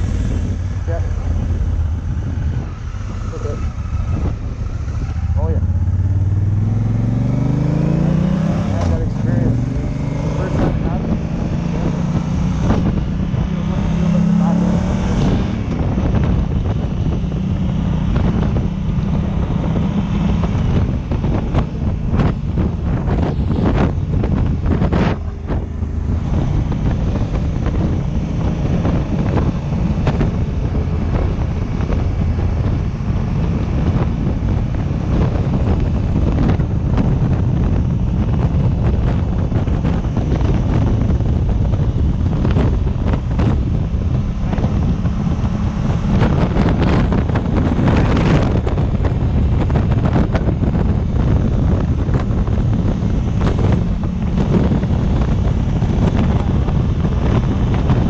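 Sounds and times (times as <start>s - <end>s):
motorcycle engine drone: 0.0s - 58.0s
wind buffeting microphone: 0.0s - 58.0s.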